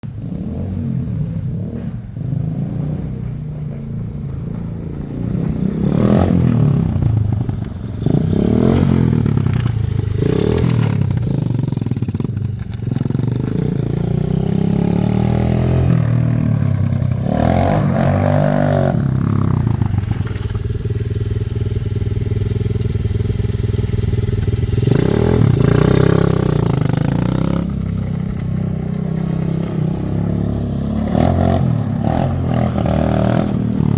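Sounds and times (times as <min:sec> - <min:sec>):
quad bike engine revving: 0:00.0 - 0:33.9.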